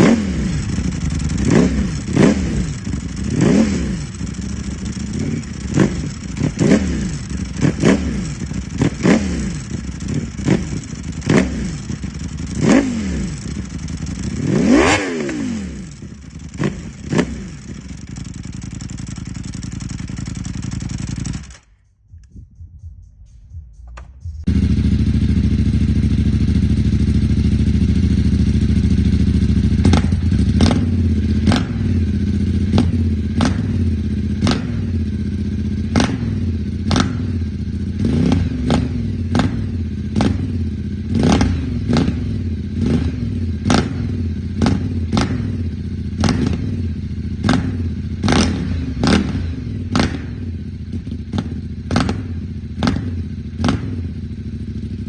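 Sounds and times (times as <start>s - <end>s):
motorcycle engine revving: 0.0s - 21.8s, 24.2s - 55.0s.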